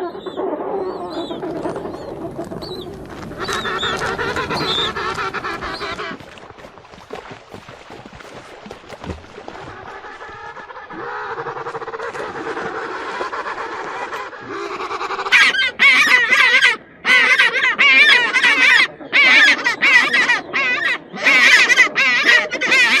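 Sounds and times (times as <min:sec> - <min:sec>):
penguins calling: 0:00.0 - 0:06.4, 0:09.5 - 0:23.0.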